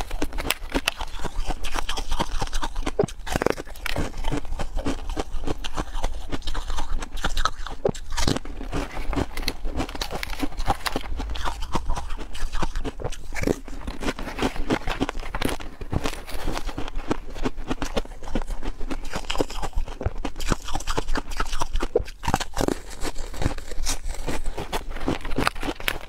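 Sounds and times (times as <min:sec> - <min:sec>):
chewing crunchy ice: 0:00.0 - 0:26.0.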